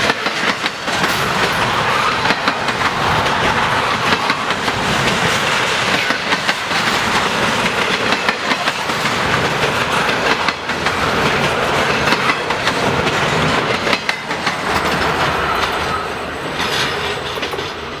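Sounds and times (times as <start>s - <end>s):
freight train rolling past: 0.0s - 18.0s
train wheels clicking over rail joints: 0.0s - 18.0s.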